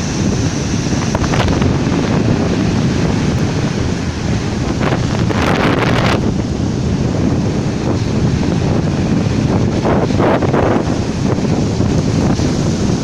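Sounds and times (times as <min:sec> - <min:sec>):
surf washing onto shore: 0:00.0 - 0:13.0
wind buffeting microphone: 0:00.0 - 0:13.0.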